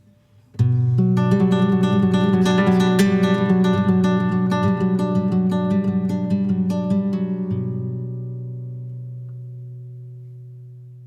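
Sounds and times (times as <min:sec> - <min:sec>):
acoustic guitar plucked and strummed: 0:00.2 - 0:11.0.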